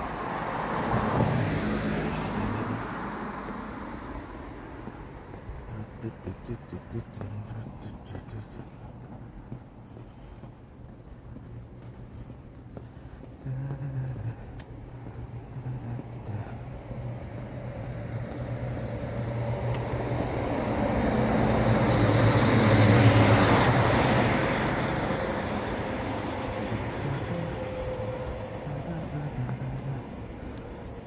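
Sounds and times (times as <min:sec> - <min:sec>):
vehicle passing: 0:00.0 - 0:31.0.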